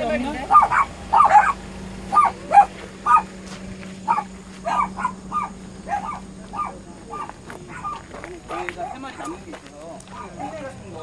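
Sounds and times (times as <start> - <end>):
dogs barking: 0.2 - 9.5, 10.1 - 10.8.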